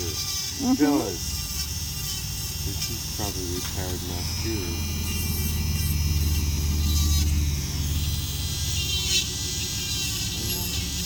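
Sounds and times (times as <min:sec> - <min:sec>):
drill grinding toenail: 0:00.0 - 0:11.0.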